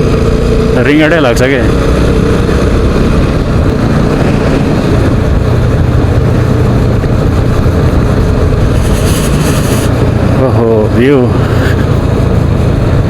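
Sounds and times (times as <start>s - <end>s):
motorcycle engine running: 0.0s - 13.0s
wind noise on microphone: 1.8s - 13.0s.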